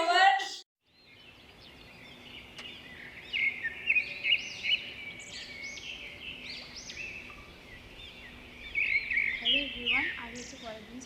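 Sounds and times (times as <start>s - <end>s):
small birds chirping: 0.9s - 11.0s.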